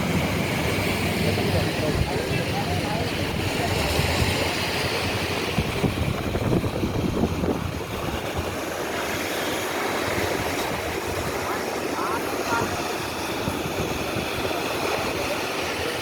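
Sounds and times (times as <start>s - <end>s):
sea waves breaking against rocks: 0.0s - 16.0s.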